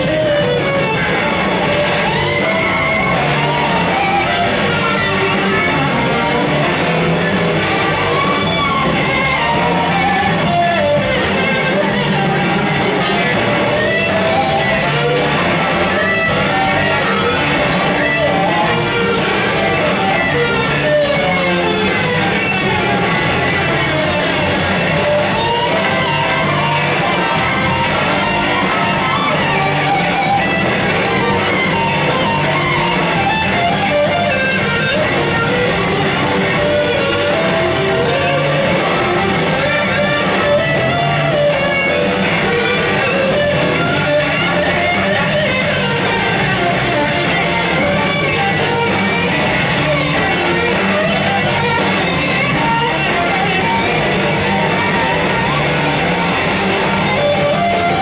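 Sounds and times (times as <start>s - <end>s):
bass guitar: 0.0s - 58.0s
drums: 0.0s - 58.0s
electric guitars: 0.0s - 58.0s.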